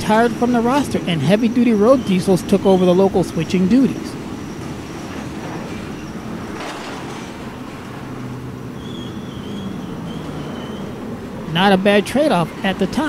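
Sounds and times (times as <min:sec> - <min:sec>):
steel wheels rumbling on rail: 0:00.0 - 0:13.0
high-pitched wheel squeal: 0:00.4 - 0:06.5, 0:08.2 - 0:13.0.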